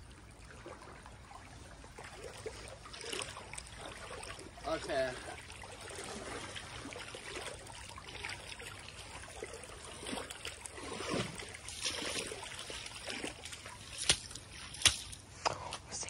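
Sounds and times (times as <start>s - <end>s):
floodwater flowing: 0.0s - 15.8s.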